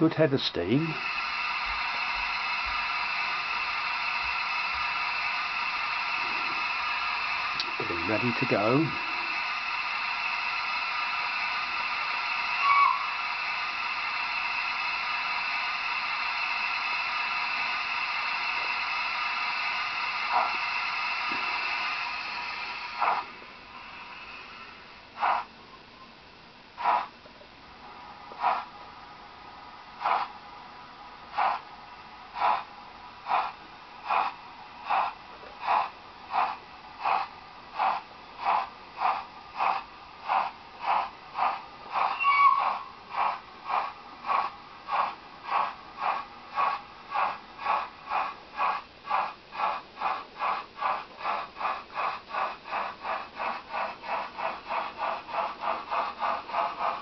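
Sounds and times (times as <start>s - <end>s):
steam locomotive exhaust chuffs: 0.0s - 26.0s, 26.6s - 57.0s.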